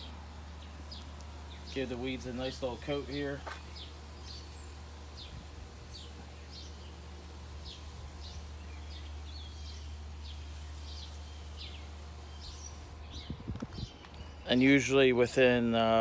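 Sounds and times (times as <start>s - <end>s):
bird chirping: 0.0s - 15.1s.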